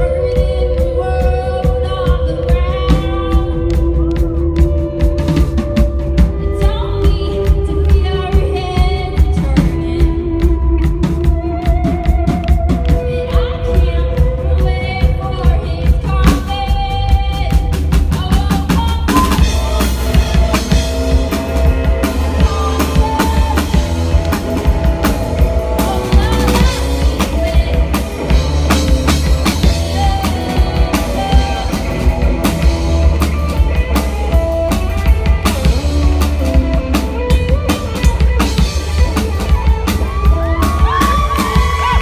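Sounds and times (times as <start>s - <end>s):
bass drum and snare: 0.0s - 42.0s
rock band playing live: 0.0s - 42.0s.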